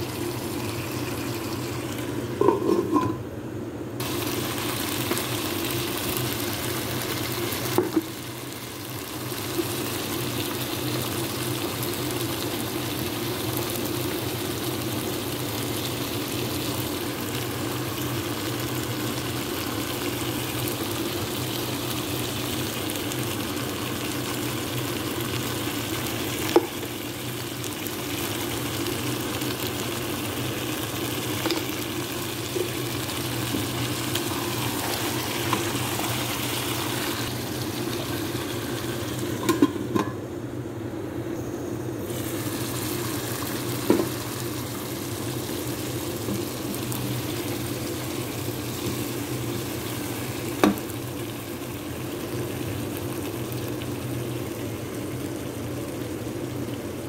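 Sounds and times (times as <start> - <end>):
curry sizzling in pot: 0.0 - 3.2, 4.0 - 40.2, 42.0 - 57.0.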